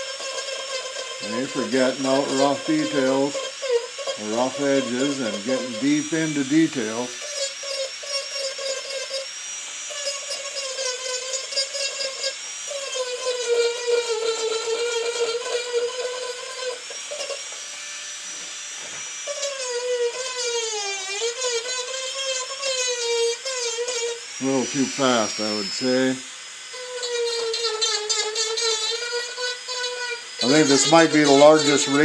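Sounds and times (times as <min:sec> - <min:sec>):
rotary tool whining: 0:00.0 - 0:32.0.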